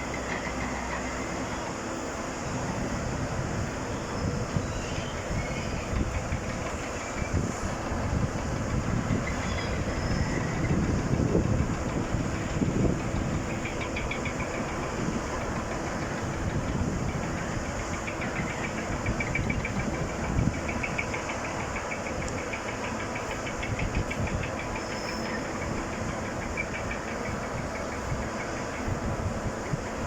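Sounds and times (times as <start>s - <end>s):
winch low rumble: 0.0s - 30.0s.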